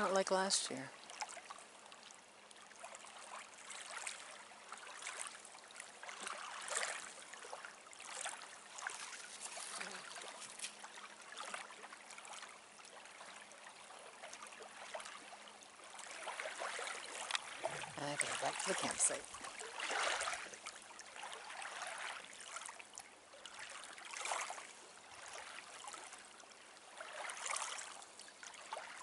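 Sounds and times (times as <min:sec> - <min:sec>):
small waves lapping at shore: 0:00.0 - 0:29.0.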